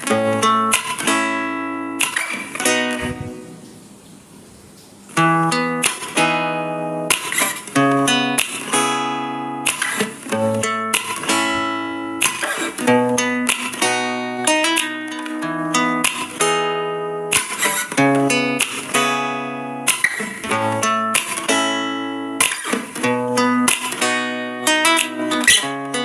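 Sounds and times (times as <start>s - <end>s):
acoustic guitar chords: 0.0s - 4.0s, 5.1s - 26.0s.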